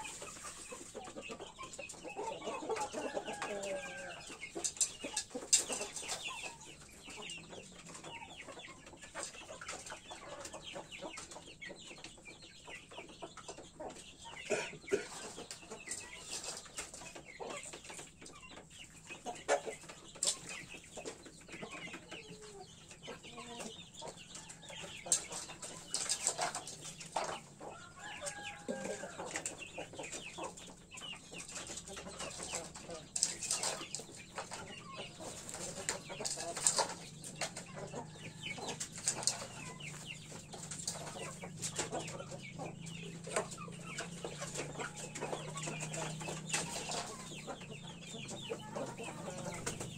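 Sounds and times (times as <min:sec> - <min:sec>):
soft clucking: 0:00.0 - 0:49.9.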